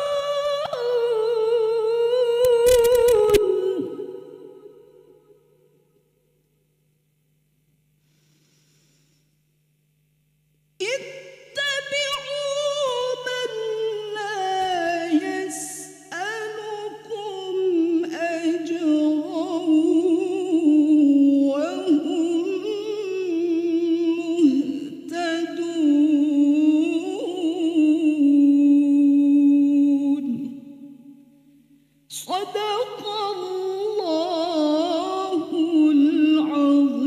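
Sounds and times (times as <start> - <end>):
woman reciting melodically: 0.0 - 5.3, 10.8 - 31.2, 32.1 - 37.0.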